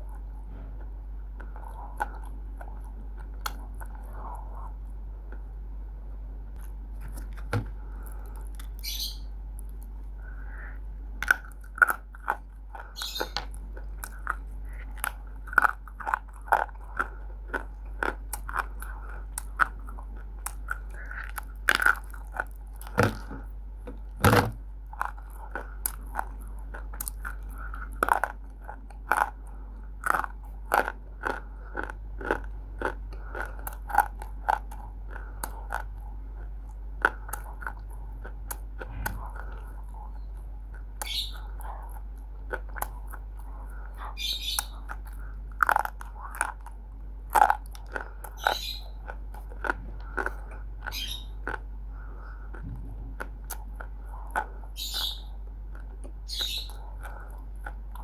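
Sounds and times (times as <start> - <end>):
clay being bitten and chewed: 0.0 - 5.5, 6.6 - 8.9, 9.5 - 58.0.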